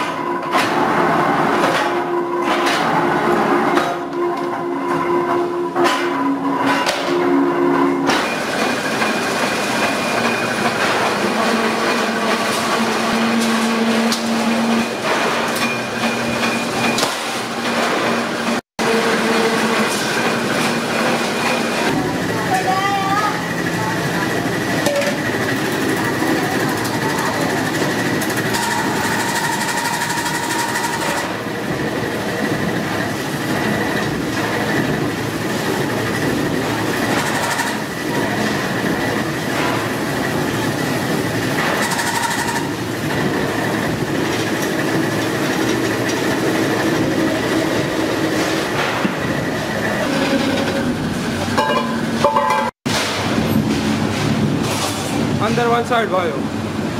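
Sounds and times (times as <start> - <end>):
workshop machinery clattering: 0.0 - 56.9.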